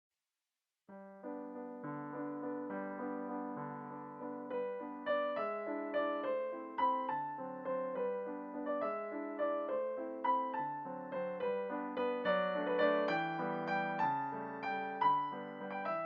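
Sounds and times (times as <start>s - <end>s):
gentle piano music: 0.9s - 16.0s.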